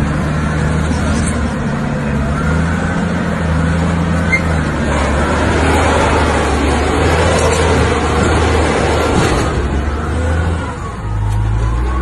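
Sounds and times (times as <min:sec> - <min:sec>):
diesel engine droning under load: 0:00.0 - 0:12.0.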